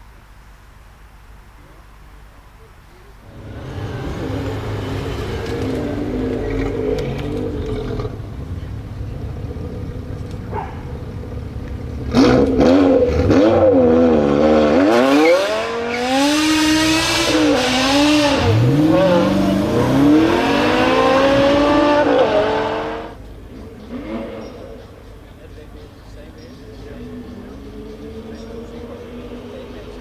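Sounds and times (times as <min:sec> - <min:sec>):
car engine revving: 0:03.3 - 0:25.2, 0:26.7 - 0:30.0.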